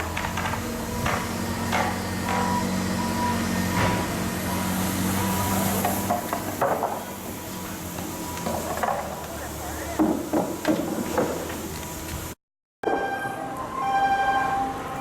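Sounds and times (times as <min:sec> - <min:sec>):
shipyard machinery humming: 0:00.0 - 0:15.0.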